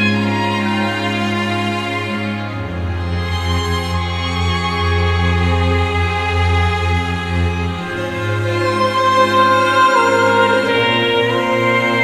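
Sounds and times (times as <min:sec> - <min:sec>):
sustained instrumental notes: 0:00.0 - 0:12.0.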